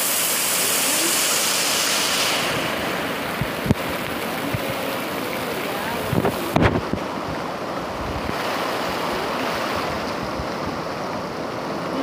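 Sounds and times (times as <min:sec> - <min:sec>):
heavy rain splashing: 0:00.0 - 0:12.0.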